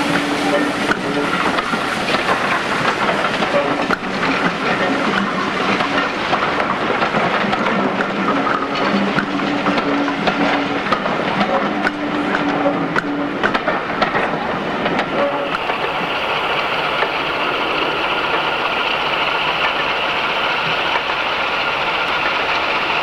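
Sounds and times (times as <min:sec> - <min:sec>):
train running rumble: 0:00.0 - 0:23.0
train wheels clicking over rail joints: 0:00.0 - 0:23.0.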